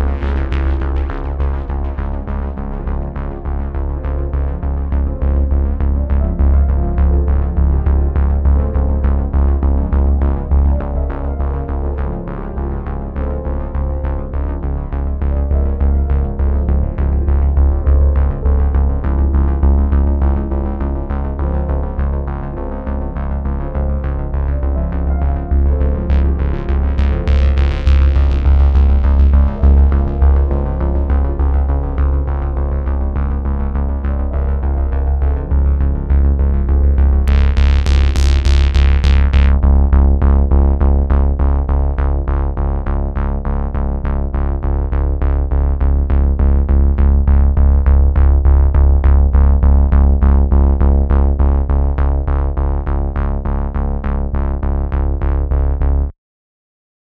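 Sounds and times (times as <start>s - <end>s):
electronic music with deep bass: 0.0s - 56.1s.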